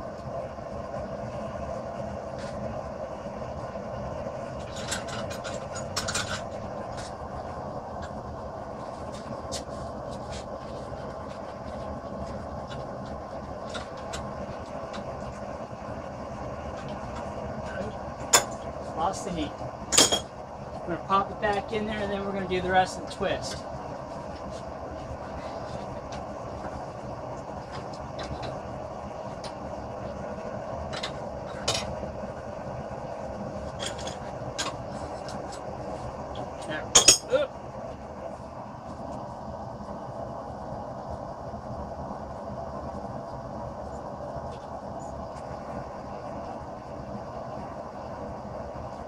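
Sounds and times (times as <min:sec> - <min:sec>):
steady workshop roar: 0:00.0 - 0:49.0.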